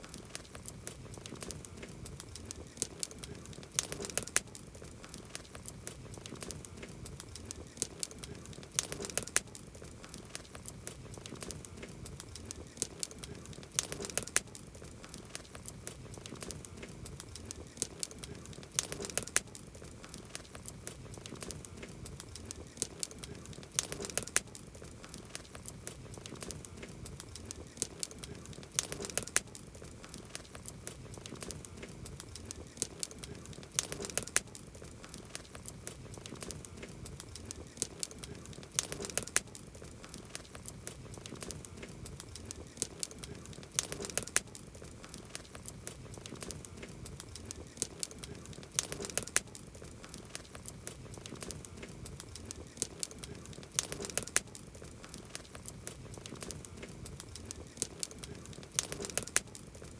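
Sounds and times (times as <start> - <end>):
campfire crackling and popping: 0.0 - 59.9
low hiss of flame: 0.0 - 59.9.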